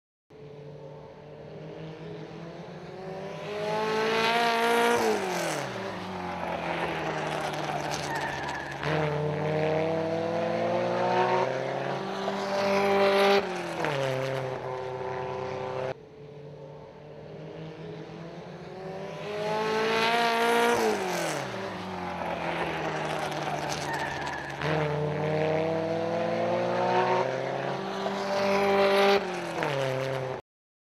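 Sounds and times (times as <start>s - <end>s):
racing car engines revving: 0.4s - 30.4s.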